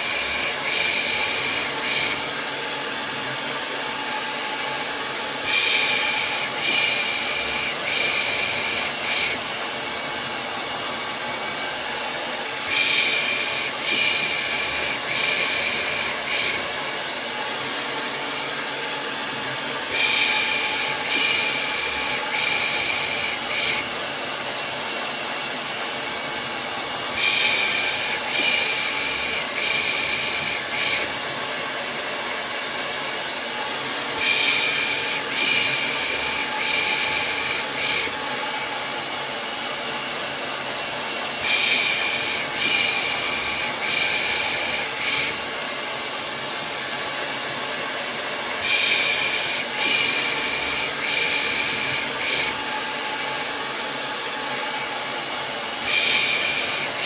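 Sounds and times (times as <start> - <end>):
hair dryer whooshing hum: 0.0 - 57.0.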